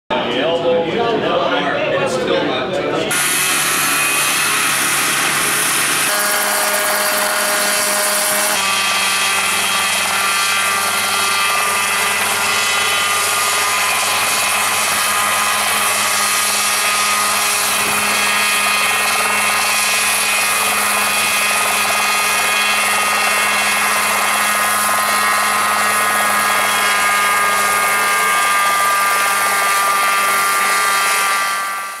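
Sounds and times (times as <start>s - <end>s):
helicopter engine and rotor buzz: 3.1s - 32.0s.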